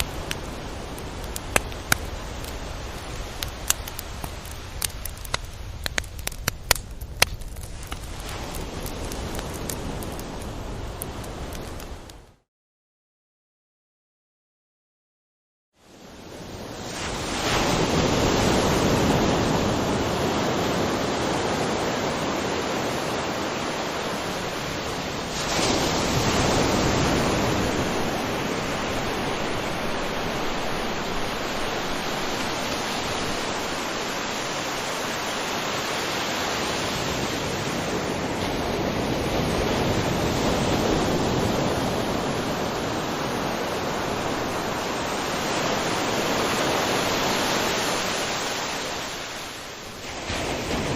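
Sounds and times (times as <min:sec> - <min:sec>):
ocean surf breaking on beach: 0:00.0 - 0:12.2, 0:15.8 - 0:50.9.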